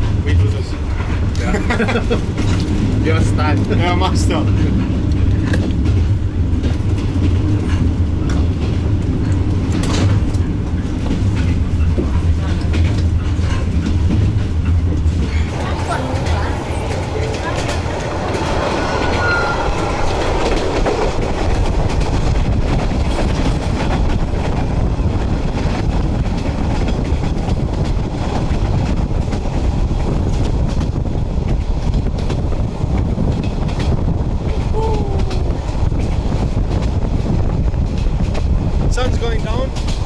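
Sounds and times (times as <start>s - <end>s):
train carriage rumble and rattle: 0.0s - 40.0s
wheels clacking over rails: 0.0s - 40.0s.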